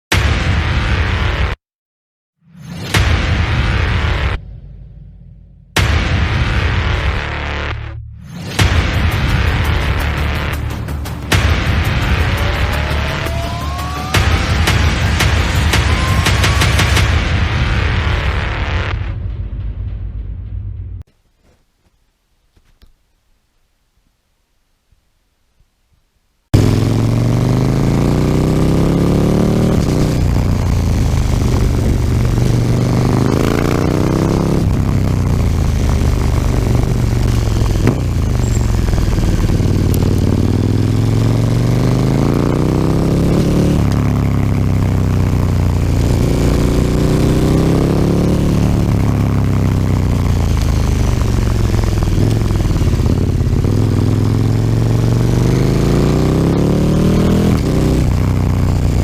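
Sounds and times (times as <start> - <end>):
motorcycle engine revving: 3.7 - 18.9, 26.6 - 59.0.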